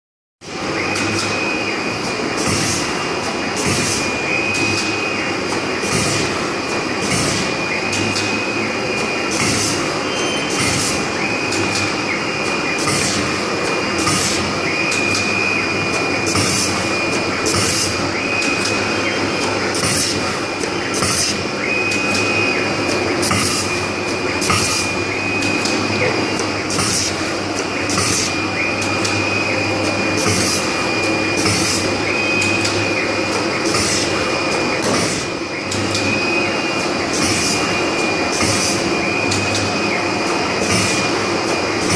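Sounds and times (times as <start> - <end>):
punching machine running: 0.4 - 41.9.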